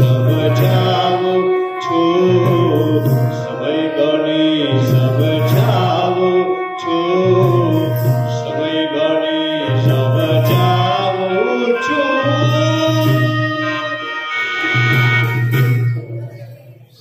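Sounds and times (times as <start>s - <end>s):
dholak drum: 0.0s - 3.6s, 4.7s - 8.8s, 9.6s - 11.3s, 12.0s - 16.6s
person singing through a pa: 0.0s - 14.2s.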